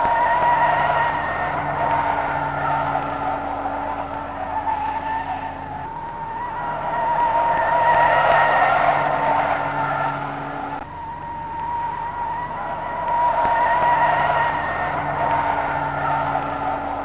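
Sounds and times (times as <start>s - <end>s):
car engine droning at high revs: 0.0s - 17.0s.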